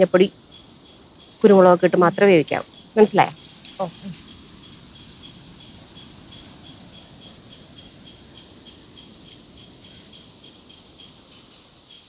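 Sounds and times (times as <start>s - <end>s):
cricket chirping: 0.0s - 12.0s
faint low background noise: 0.0s - 12.0s.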